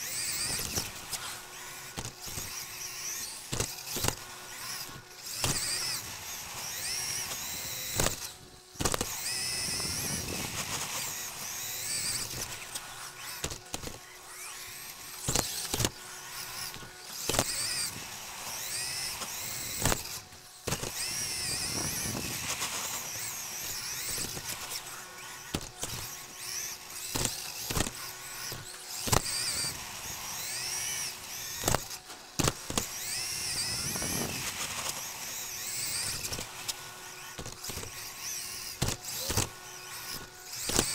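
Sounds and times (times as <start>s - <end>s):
electric motor whining: 0.0s - 40.9s.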